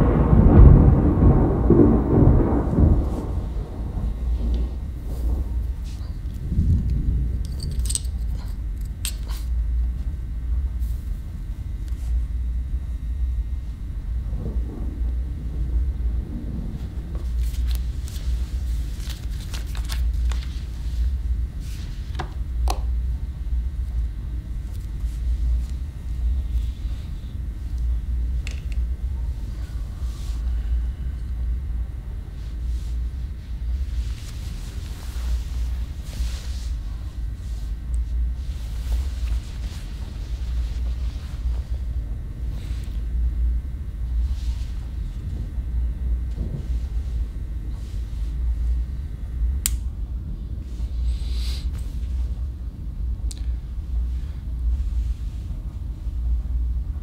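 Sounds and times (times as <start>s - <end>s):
low rumbling drone: 0.0s - 57.0s.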